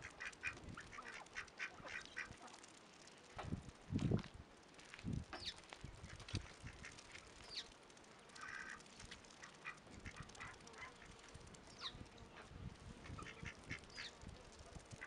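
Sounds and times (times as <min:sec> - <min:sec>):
ducks geese and chickens calling: 0:00.0 - 0:02.7, 0:05.4 - 0:15.0.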